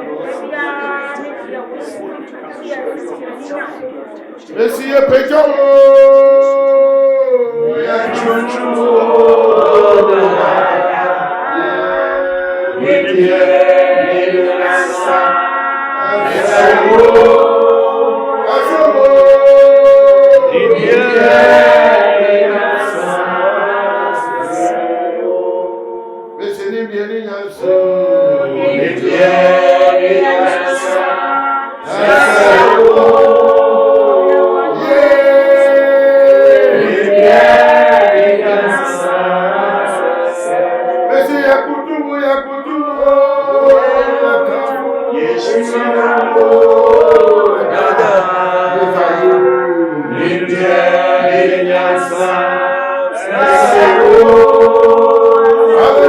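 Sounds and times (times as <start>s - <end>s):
voices chanting: 0.0s - 56.0s
group singing worship song: 4.5s - 56.0s.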